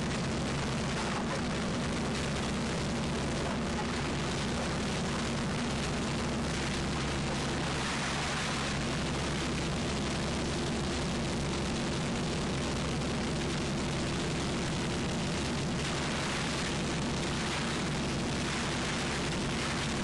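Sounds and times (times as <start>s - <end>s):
boat engine drone: 0.0s - 20.0s
continuous hiss: 0.0s - 20.0s.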